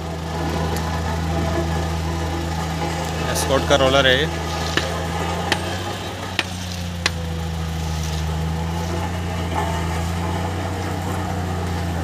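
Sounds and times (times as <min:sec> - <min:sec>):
road roller diesel engine: 0:00.0 - 0:12.0.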